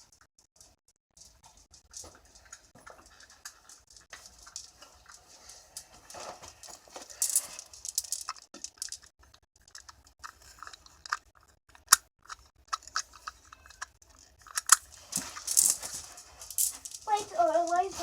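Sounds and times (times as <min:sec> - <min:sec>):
handling clicks and rustles: 0:00.1 - 0:18.0.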